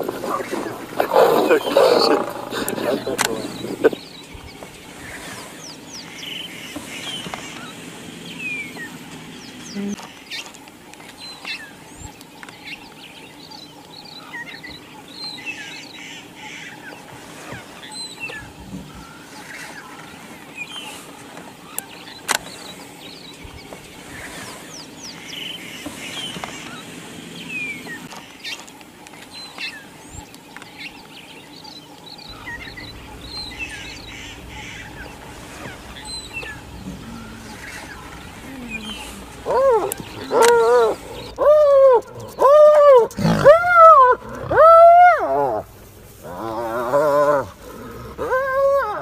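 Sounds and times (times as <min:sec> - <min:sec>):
birds chirping and whistling: 0:00.0 - 0:49.0.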